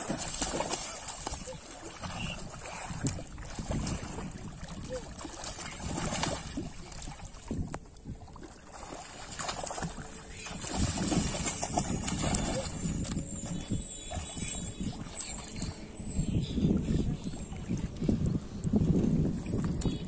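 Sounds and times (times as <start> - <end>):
shallow water splashing and sloshing: 0.0 - 20.0.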